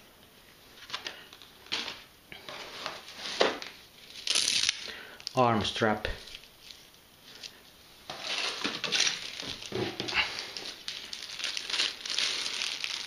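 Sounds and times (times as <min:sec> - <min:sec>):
plastic bags crinkling: 0:00.8 - 0:05.4, 0:06.3 - 0:13.0.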